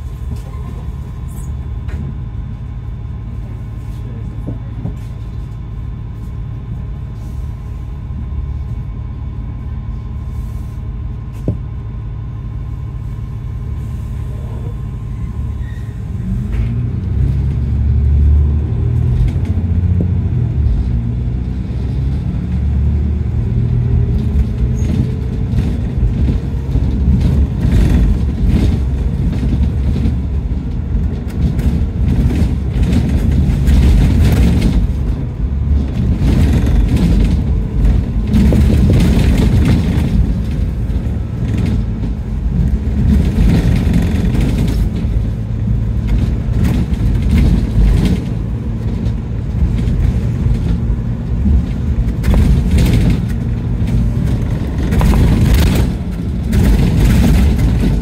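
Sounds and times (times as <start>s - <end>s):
bus engine accelerating: 0.0s - 58.0s
road rumble: 0.0s - 58.0s.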